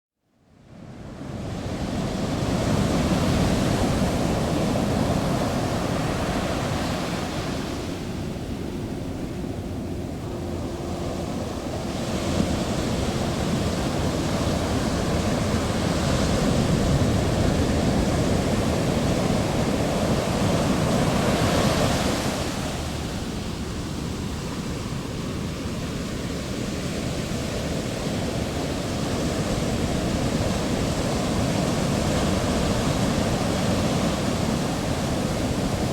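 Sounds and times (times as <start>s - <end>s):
heavy ocean waves breaking: 0.7s - 35.9s.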